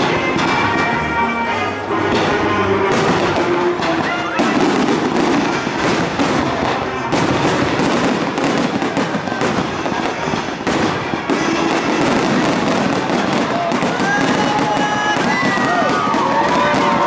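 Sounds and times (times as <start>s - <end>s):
fireworks crackling: 0.0s - 17.0s
fireworks booms: 2.0s - 17.0s.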